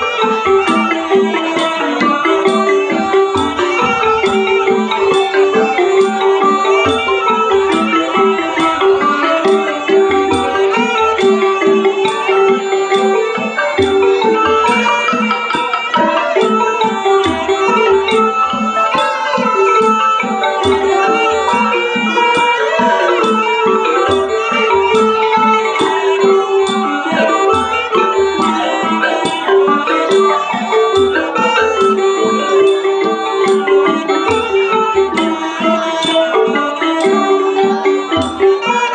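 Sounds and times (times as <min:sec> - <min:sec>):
high ticking beat: 0:00.0 - 0:38.9
reed oboe melody: 0:00.0 - 0:38.9
xylophones playing: 0:00.0 - 0:38.9.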